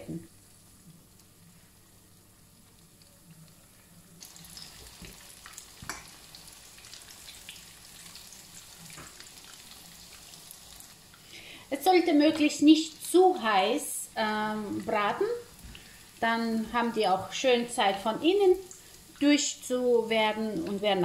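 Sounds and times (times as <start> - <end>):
patties sizzling in oil: 0.0 - 21.0.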